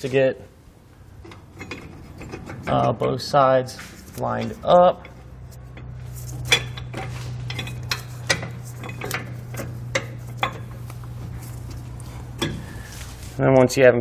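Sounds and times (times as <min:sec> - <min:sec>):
steady low hum: 0:00.0 - 0:14.0
metal clinks and scrapes: 0:01.1 - 0:13.4.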